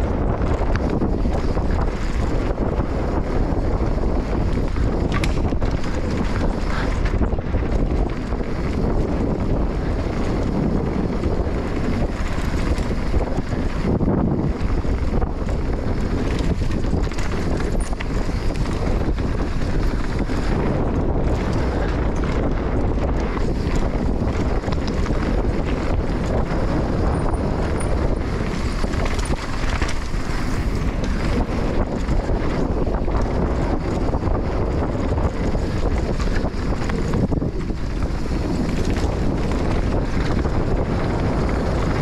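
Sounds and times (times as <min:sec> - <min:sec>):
dirt bike engine running: 0:00.0 - 0:42.0
wind buffeting microphone: 0:00.0 - 0:42.0.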